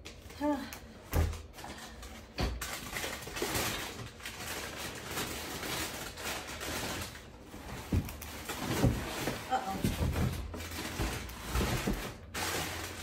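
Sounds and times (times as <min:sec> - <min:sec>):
packing paper rustling: 0:00.0 - 0:13.0.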